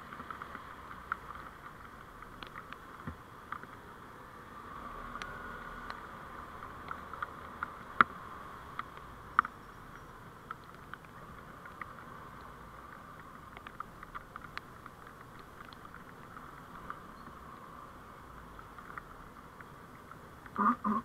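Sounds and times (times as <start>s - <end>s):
vehicle road noise: 0.0s - 21.0s
sharp clicks and ticks: 0.1s - 3.8s, 5.2s - 17.7s, 18.4s - 21.0s.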